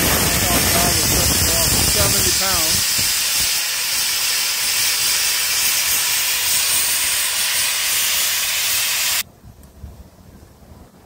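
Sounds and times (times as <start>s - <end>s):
steam boiler venting steam: 0.0s - 9.2s.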